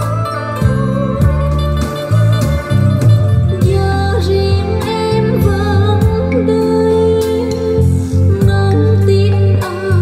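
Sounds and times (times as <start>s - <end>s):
slow music through speakers: 0.0s - 10.0s.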